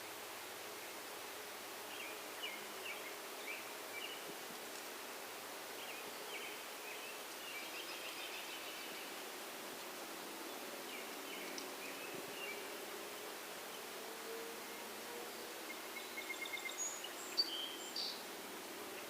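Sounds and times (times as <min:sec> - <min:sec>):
songbirds chirping: 0:00.0 - 0:19.0
steady hiss: 0:00.0 - 0:19.0.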